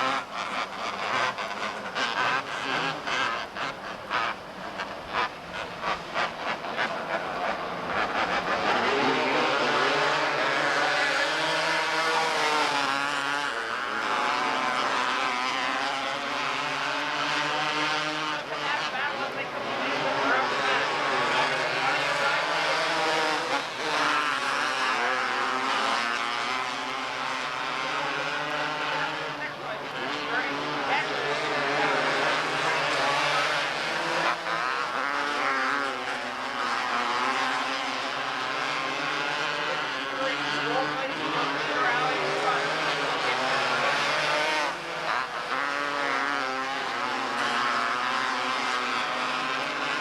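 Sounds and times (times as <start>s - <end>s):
race car engines: 0.0s - 50.0s.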